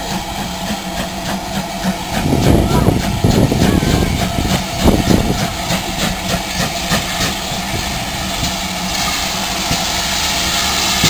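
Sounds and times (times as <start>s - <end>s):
steam hissing: 0.0s - 11.0s
steam locomotive exhaust beats: 0.0s - 11.0s.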